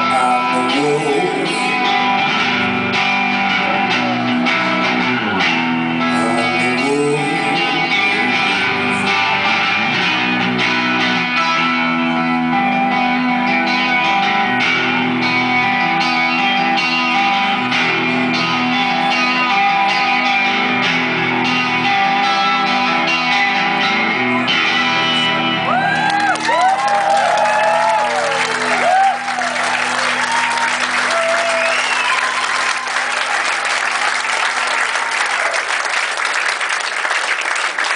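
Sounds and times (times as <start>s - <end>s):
live band guitar instrumental: 0.0s - 33.4s.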